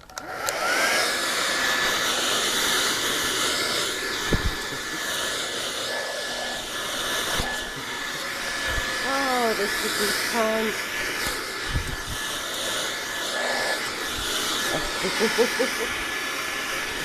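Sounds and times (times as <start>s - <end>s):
blow dryer running: 0.0s - 17.0s.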